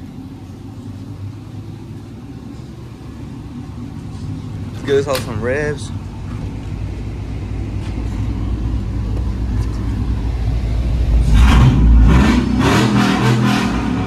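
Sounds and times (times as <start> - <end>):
truck engine rumbling and revving: 0.0 - 14.0.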